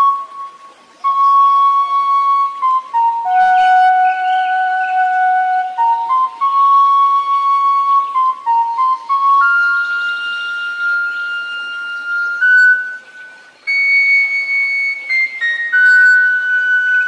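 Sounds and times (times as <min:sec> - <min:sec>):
solo flute slow melody: 0:00.0 - 0:17.0.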